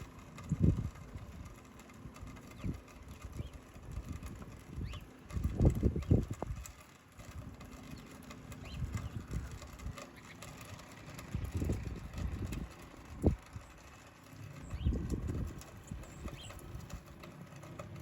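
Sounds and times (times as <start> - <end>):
low rumbling bursts: 0.0 - 18.0.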